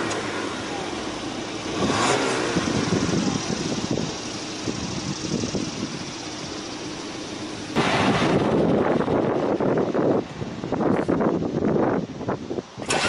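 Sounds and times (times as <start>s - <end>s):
car engine exhaust running: 0.0s - 13.0s.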